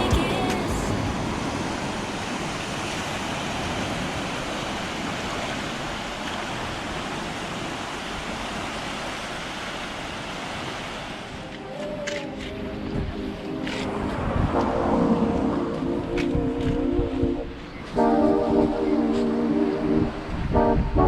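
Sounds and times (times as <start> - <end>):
ocean surf on the shore: 0.0 - 21.0.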